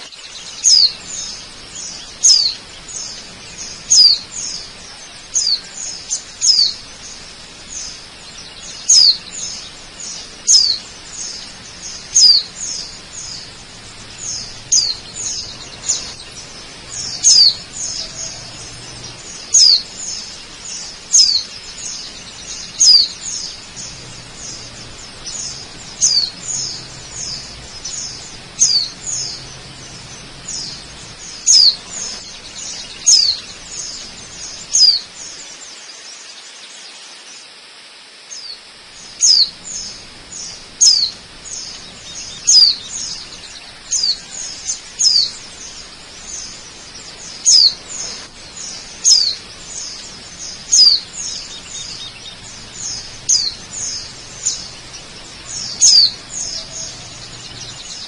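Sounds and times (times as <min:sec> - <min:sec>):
birds calling with whistled notes: 0:00.0 - 0:58.0
waterfall rushing: 0:00.0 - 0:58.0.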